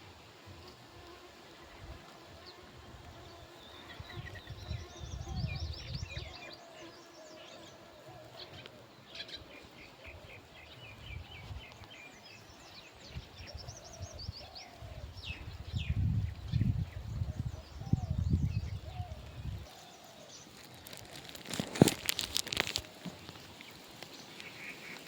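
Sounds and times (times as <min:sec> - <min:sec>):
small birds chirping and trilling: 0:01.7 - 0:25.0.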